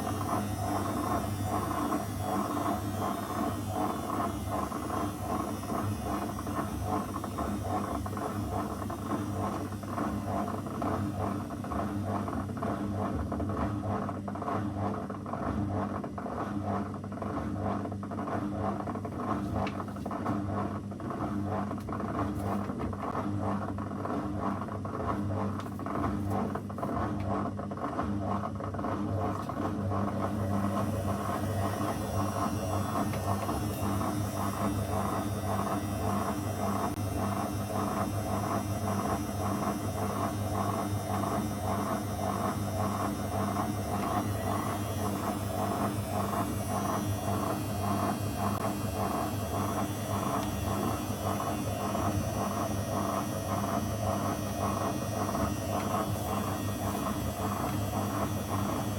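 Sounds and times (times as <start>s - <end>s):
washing machine motor hum: 0.0s - 58.9s.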